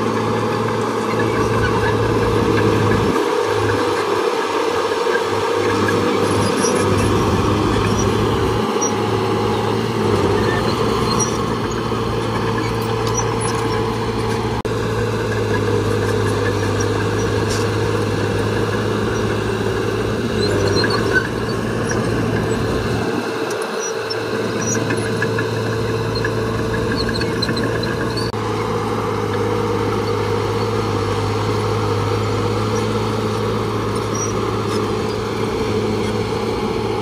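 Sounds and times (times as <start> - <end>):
diesel earthmoving machinery running: 0.0 - 37.0.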